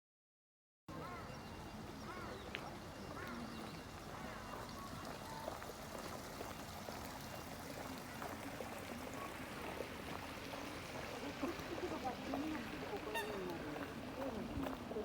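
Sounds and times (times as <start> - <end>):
water trickling and splashing: 1.5 - 15.0.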